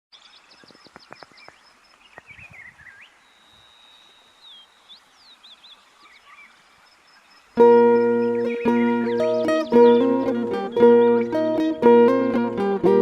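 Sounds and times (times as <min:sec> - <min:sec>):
faint birdsong: 0:00.1 - 0:13.0.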